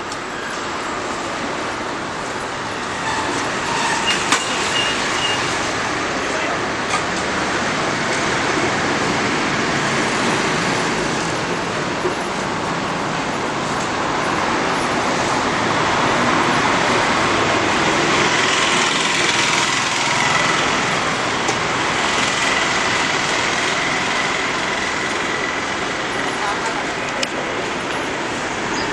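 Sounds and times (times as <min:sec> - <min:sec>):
passing traffic: 0:00.0 - 0:28.9.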